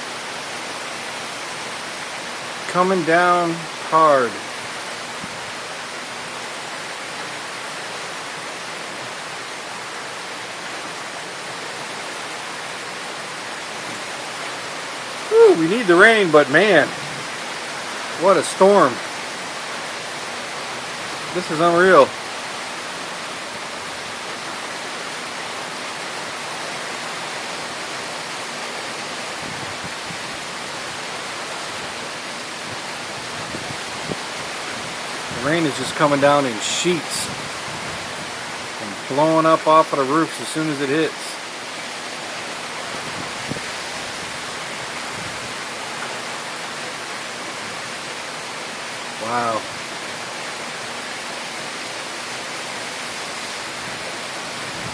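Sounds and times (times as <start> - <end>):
heavy rain pouring: 0.0 - 54.9
wind driving rain: 0.0 - 54.9.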